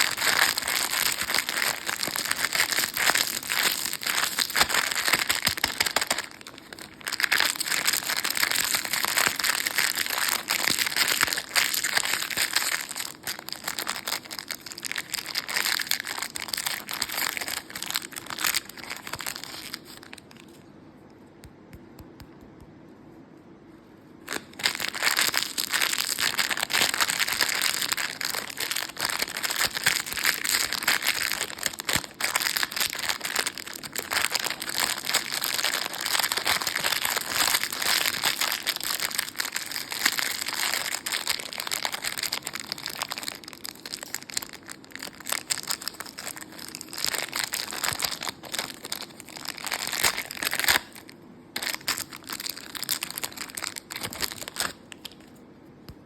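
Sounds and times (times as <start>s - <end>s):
plastic wrappers crinkling: 0.0s - 20.6s, 24.2s - 55.4s.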